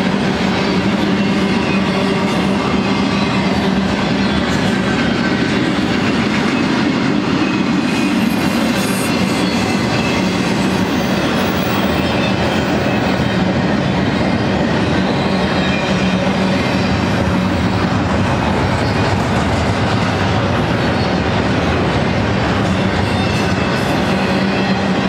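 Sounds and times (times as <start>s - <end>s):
train wheels rolling on rail: 0.0s - 25.0s.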